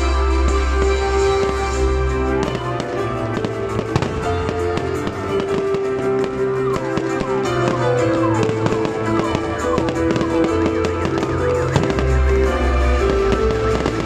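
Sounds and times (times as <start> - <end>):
fireworks bangs and crackles: 0.0 - 14.0
music with sustained notes: 0.0 - 14.0.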